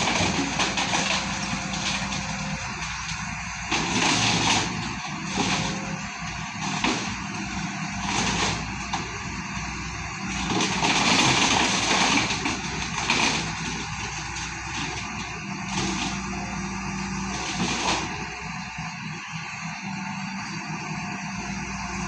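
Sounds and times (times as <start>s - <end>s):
heavy machinery engine running: 0.0s - 22.0s.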